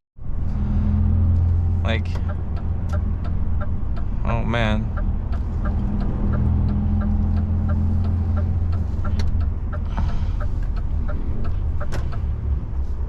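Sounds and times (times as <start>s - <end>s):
diesel truck engine humming: 0.2s - 13.0s
turn indicator relay ticking: 1.4s - 12.7s.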